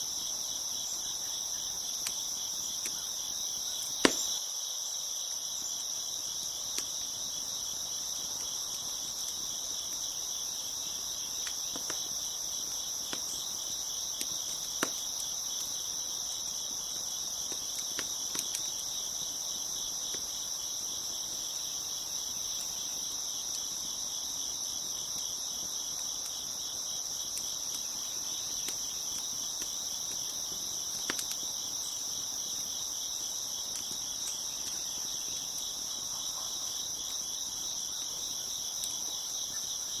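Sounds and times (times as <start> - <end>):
crickets chirping: 0.0 - 40.0
wood fire crackling and popping: 1.6 - 4.4, 6.3 - 39.5.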